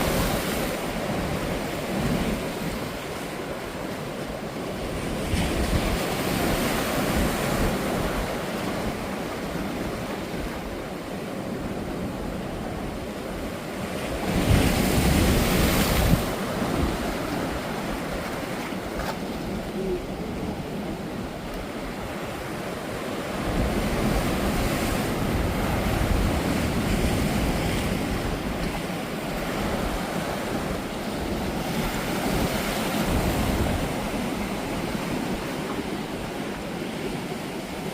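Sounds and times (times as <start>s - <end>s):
wind rumbling on microphone: 0.0s - 37.4s
waves crashing on beach: 0.0s - 37.9s.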